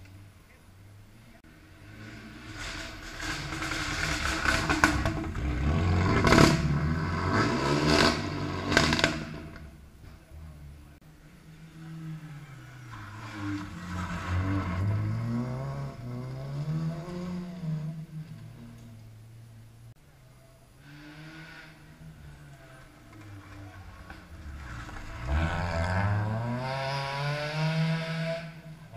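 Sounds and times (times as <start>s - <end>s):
rally car engine revving: 1.5s - 19.0s, 20.8s - 28.9s.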